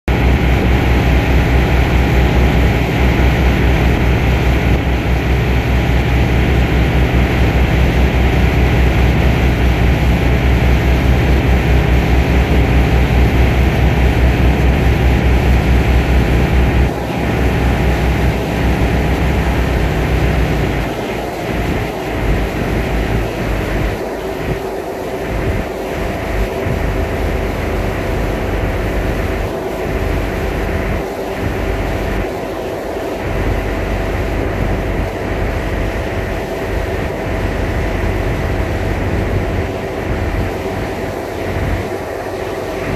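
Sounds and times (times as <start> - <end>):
diesel engine humming: 0.0 - 42.9
rushing noise: 0.1 - 42.9.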